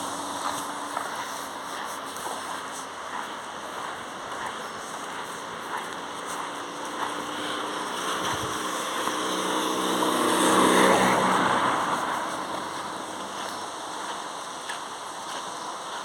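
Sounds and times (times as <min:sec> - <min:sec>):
motor vehicle passing by: 0:00.0 - 0:14.2.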